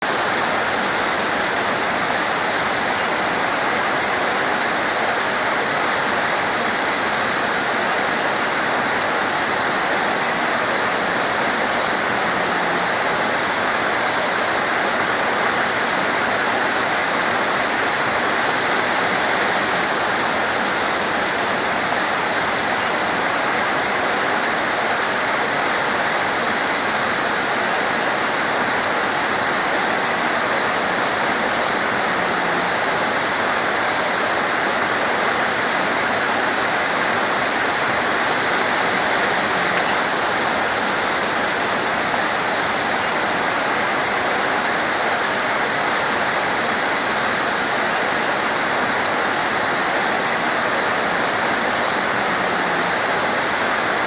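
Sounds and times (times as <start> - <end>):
heavy torrential rain: 0.0 - 54.0.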